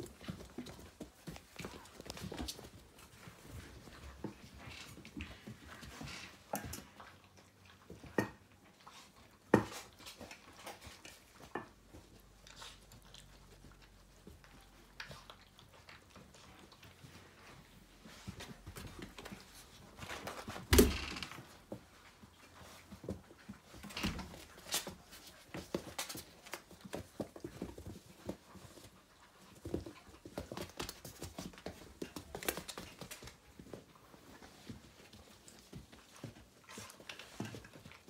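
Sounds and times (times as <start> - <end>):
puppies playing: 0.0 - 38.0.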